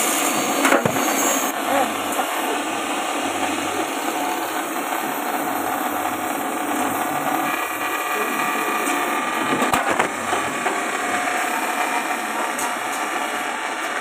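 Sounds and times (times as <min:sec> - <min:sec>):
chopping machine running: 0:00.0 - 0:14.0.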